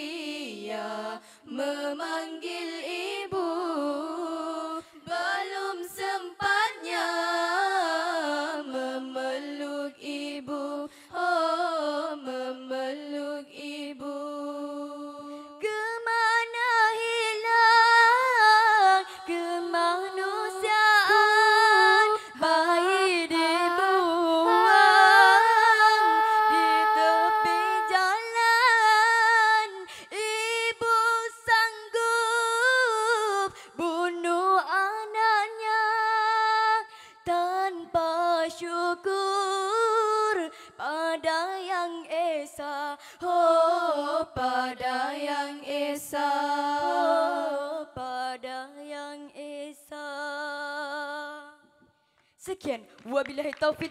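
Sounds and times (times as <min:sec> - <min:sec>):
female vocal group singing a cappella: 0:00.0 - 0:53.9.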